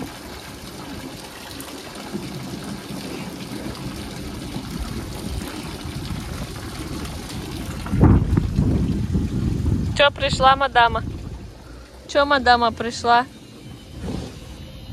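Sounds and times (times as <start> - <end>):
water from hose splashing into pool: 0.0 - 14.9.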